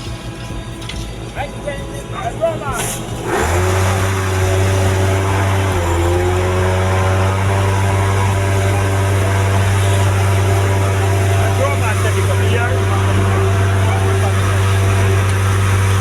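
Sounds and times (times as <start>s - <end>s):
tyre and road noise: 0.0s - 16.0s
vehicle engine drone: 0.0s - 16.0s.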